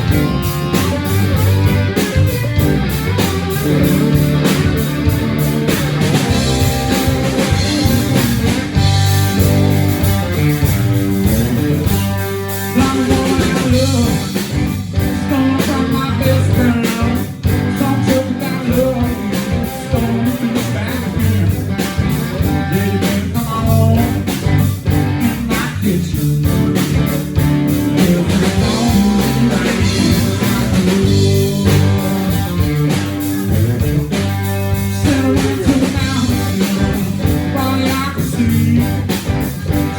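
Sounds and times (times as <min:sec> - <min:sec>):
bass line: 0:00.0 - 0:39.9
drum kit: 0:00.0 - 0:39.9
guitar: 0:00.0 - 0:39.9.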